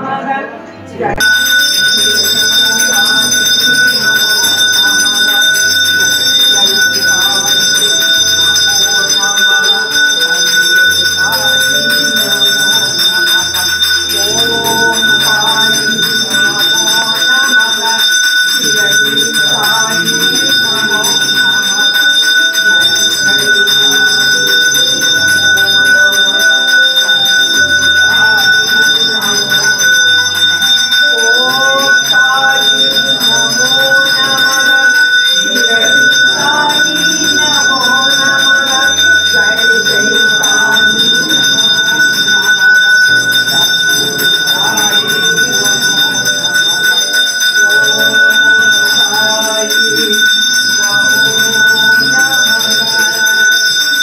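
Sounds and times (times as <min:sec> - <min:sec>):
voices singing devotional chant: 0:00.0 - 0:54.0
hand bell ringing: 0:01.1 - 0:54.0.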